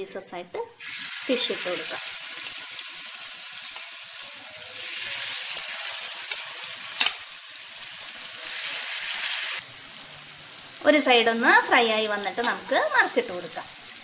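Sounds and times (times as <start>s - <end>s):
fish sizzling in hot oil: 0.8s - 14.0s.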